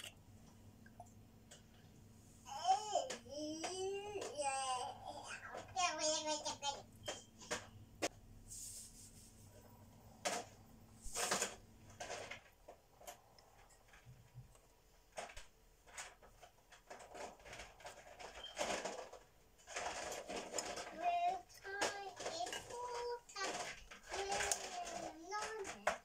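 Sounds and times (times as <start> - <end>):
rustles and clatters on countertop: 1.5 - 26.0.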